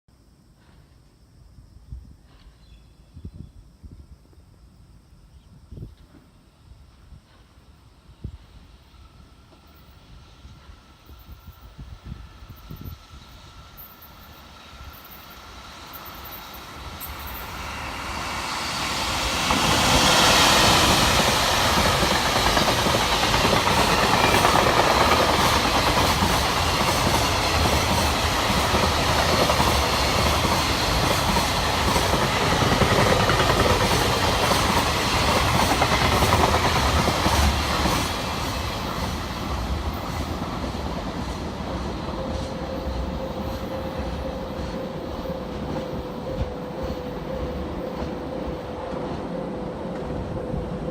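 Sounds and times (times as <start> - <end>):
electric locomotive passing: 6.1 - 50.9.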